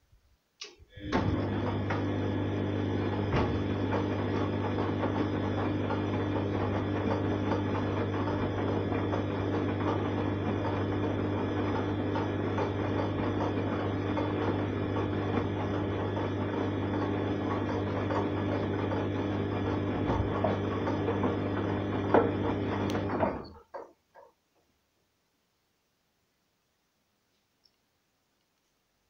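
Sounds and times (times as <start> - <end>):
washing machine motor hum: 0.8 - 24.3.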